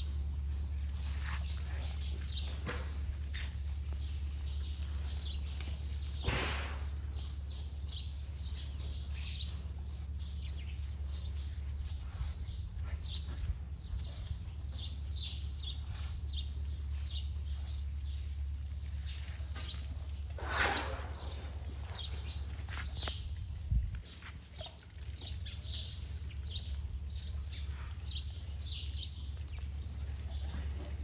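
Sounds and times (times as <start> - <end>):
small birds chirping: 0.0 - 31.0
steady low hum: 0.0 - 31.0.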